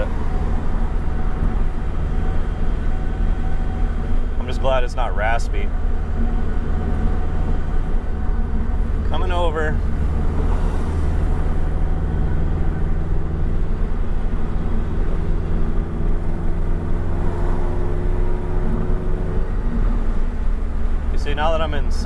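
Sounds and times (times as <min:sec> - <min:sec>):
car engine droning in cabin: 0:00.0 - 0:22.0.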